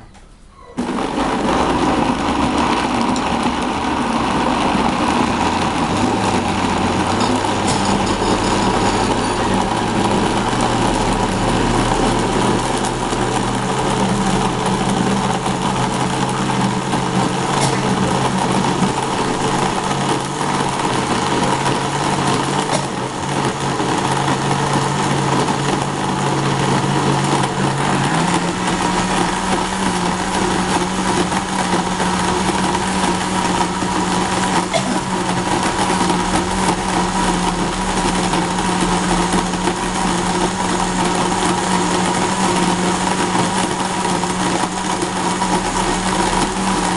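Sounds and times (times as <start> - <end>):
blender motor running: 0.8 - 46.9.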